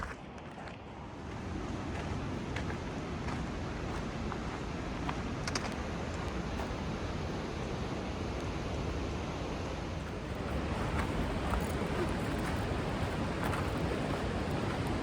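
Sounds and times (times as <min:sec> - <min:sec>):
river water through rapids: 0:01.2 - 0:15.0.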